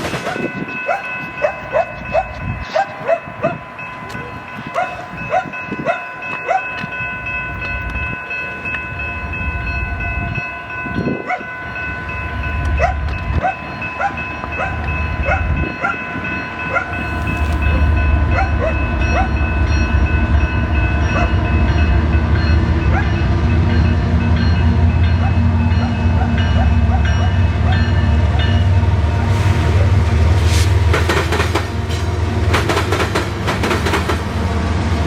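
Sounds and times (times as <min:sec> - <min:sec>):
railroad crossing bell ringing: 0:00.0 - 0:34.9
train passing with rumble: 0:00.0 - 0:35.0.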